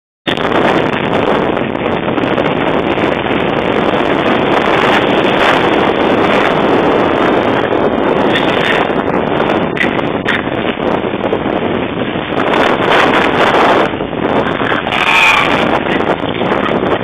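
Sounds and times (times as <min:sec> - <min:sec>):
wind buffeting microphone: 0:00.2 - 0:17.0.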